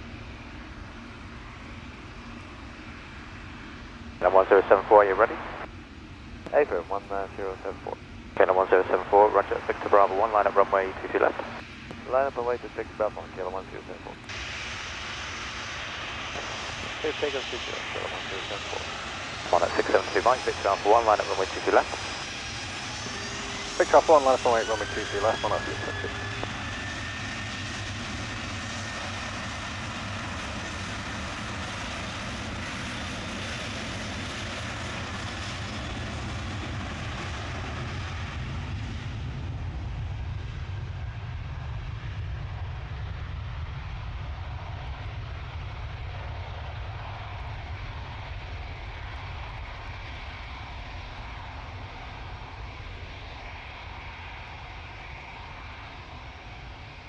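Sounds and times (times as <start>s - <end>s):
aircraft engines at takeoff: 0.0s - 57.0s.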